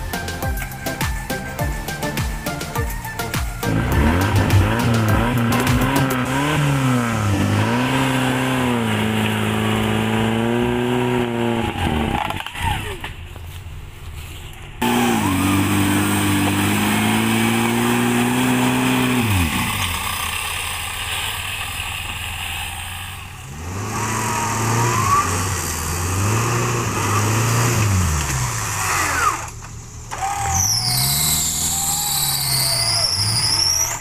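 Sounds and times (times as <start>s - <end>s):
off-road engine revving: 0.0s - 13.6s, 14.7s - 34.0s.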